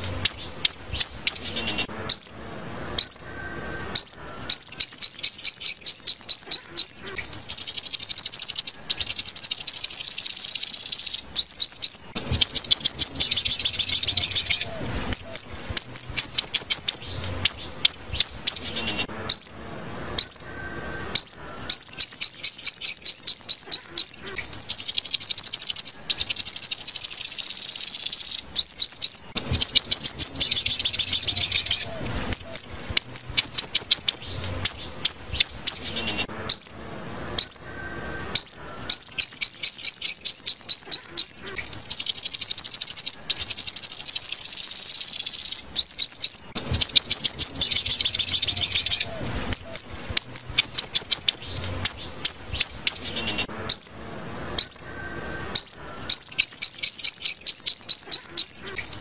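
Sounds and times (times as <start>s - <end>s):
bird trills and sharp chirps: 0.0s - 59.0s.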